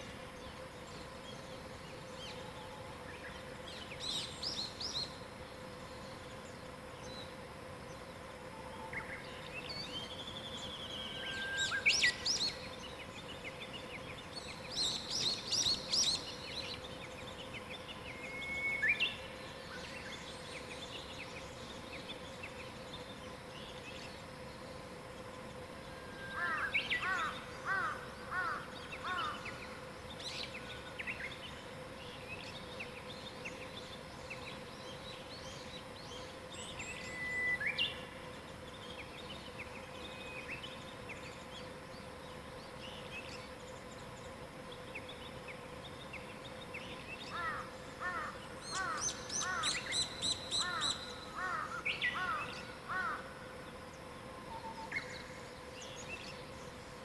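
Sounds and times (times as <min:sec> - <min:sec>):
faint steady hum: 0:00.0 - 0:57.0
wild birds singing: 0:00.0 - 0:57.0.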